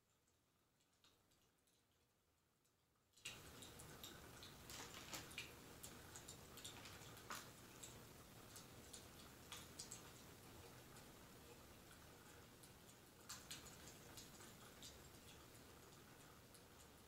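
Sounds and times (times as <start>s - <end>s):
fireplace crackling: 3.2s - 17.0s.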